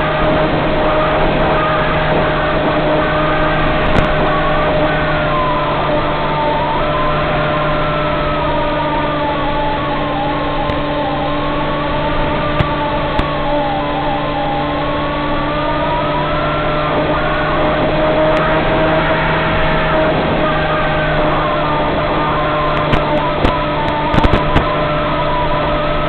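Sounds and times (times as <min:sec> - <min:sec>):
electric motor and propeller whine: 0:00.0 - 0:26.0
rush of noise: 0:00.0 - 0:26.0.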